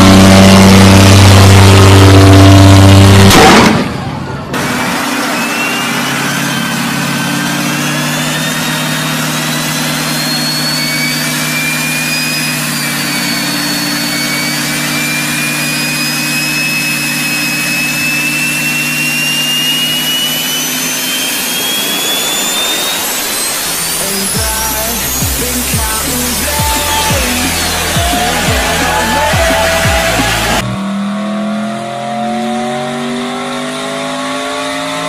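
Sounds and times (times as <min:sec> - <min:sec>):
high turbo whistle: 0:00.0 - 0:03.4, 0:04.6 - 0:30.8
diesel engine running hard: 0:00.0 - 0:35.0.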